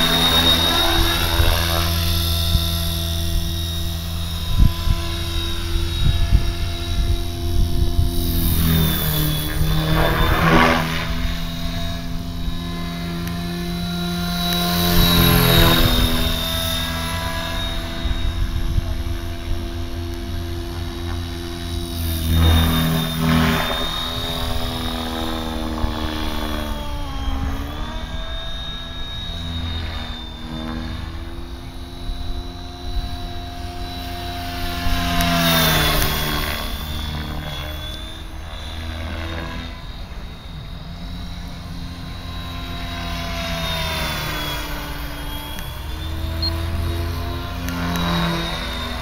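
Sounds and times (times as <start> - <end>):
high motor whine: 0.0 - 49.0
rc helicopter rotor drone: 0.0 - 49.0.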